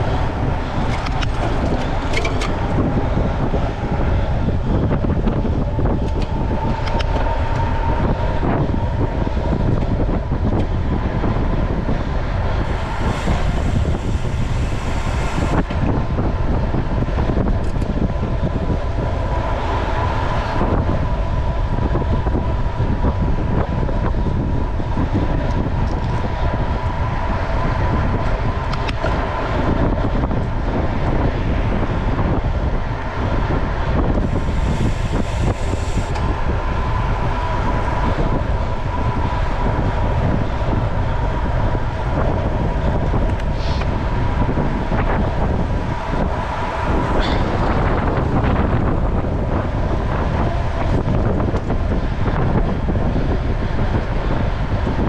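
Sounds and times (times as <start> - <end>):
bike rolling noise: 0.0 - 55.0
steady high hum: 0.0 - 55.0
wind noise on microphone: 0.0 - 55.0.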